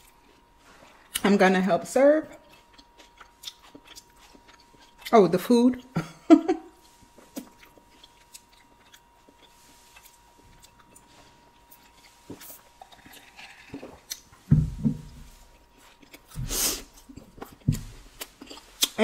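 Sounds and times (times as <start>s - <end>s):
chewing food: 0.0s - 1.3s, 2.2s - 19.0s.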